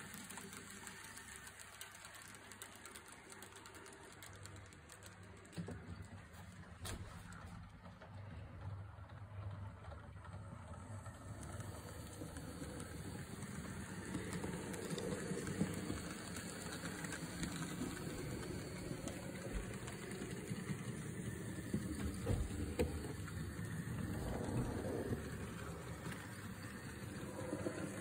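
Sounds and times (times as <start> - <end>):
model train motor and wheels rumbling: 0.0 - 28.0.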